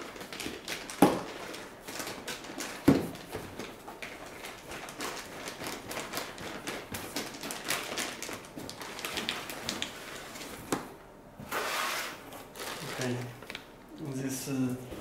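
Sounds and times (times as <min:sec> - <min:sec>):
plastic wrap crinkling: 0:00.0 - 0:11.0, 0:12.0 - 0:14.2.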